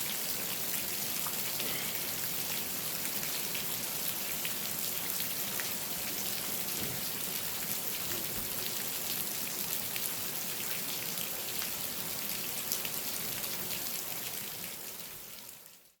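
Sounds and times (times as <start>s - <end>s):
steady rain falling: 0.0s - 16.0s
raindrops ticking on hard surfaces: 0.1s - 15.7s.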